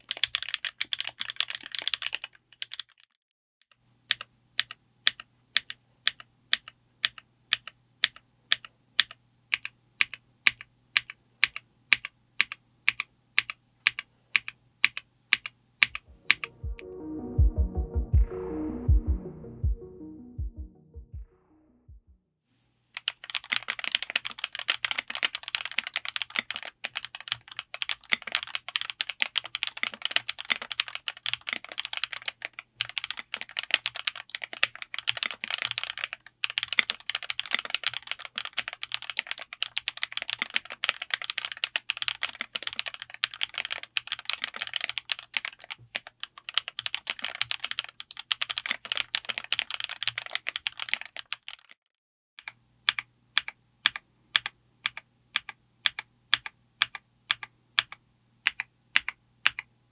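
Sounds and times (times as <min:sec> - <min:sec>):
mechanical keyboard typing: 0:00.0 - 0:03.0, 0:04.1 - 0:16.5, 0:23.0 - 0:51.8, 0:52.4 - 0:59.7.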